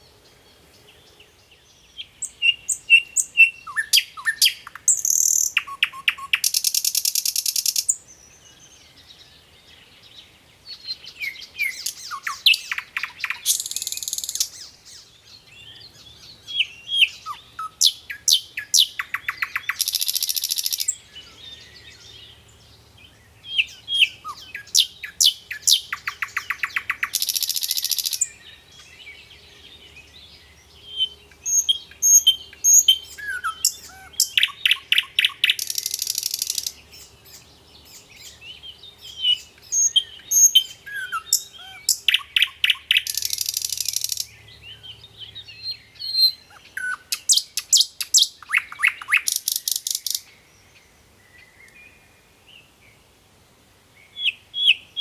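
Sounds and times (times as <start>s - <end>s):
birds chirping and calling: 0.0s - 52.8s.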